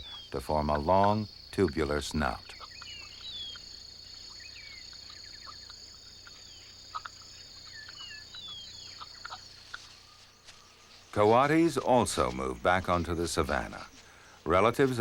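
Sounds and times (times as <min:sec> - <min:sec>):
bird chirps: 0:00.0 - 0:15.0
insects trilling: 0:00.0 - 0:15.0.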